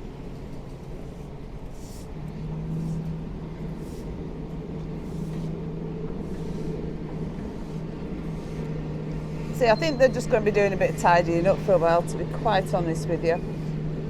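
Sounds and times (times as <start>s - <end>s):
excavator diesel engine running: 2.1s - 14.0s.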